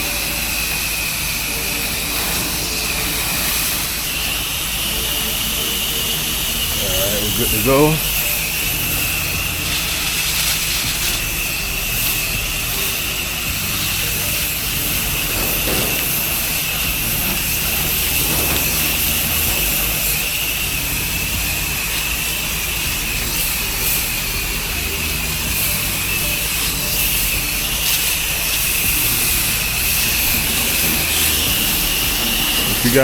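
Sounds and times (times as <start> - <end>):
pressure washer engine humming: 0.0 - 33.0
water spray hissing: 0.0 - 33.0.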